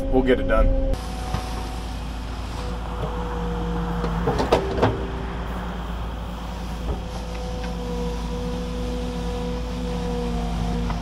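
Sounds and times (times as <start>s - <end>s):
hydraulic whine: 0.0s - 11.0s
diesel engine running: 0.9s - 11.0s.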